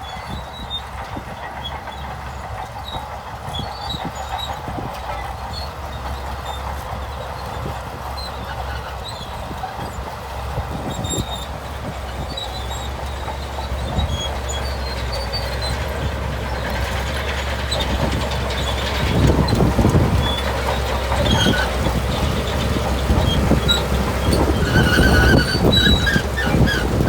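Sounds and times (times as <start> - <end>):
bulldozer diesel engine under load: 0.0 - 27.0
steel tracks clanking and squeaking: 0.0 - 27.0.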